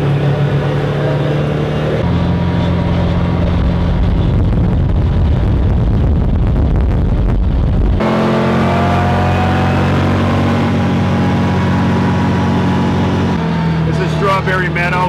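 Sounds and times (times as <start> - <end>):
car engine drone: 0.0 - 15.0
tyre and road rumble: 0.0 - 15.0.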